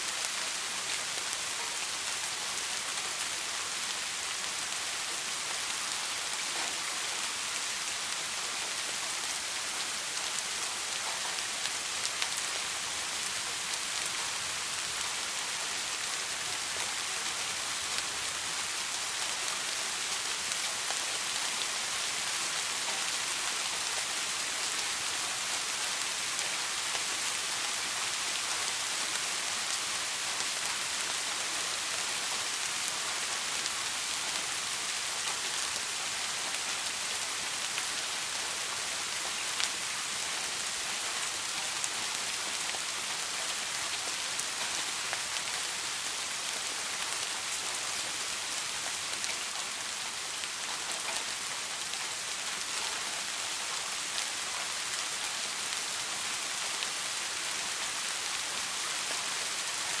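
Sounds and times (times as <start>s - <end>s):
rainfall hiss: 0.0s - 60.0s
raindrops ticking on surface: 0.2s - 60.0s.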